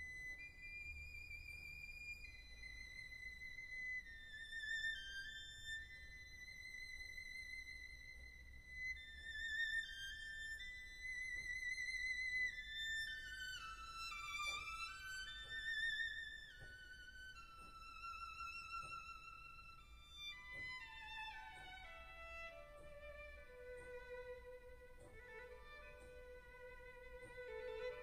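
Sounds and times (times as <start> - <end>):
solo violin melody: 0.0 - 28.0.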